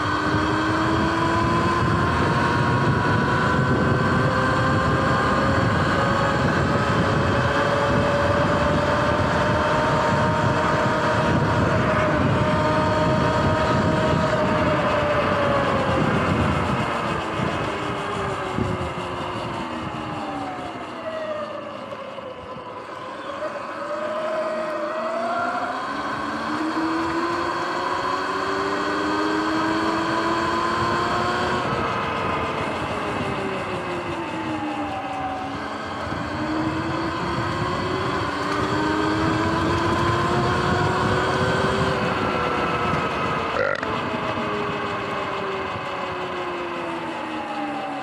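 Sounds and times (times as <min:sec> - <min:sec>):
electric motorbike motor whining: 0:00.0 - 0:48.0.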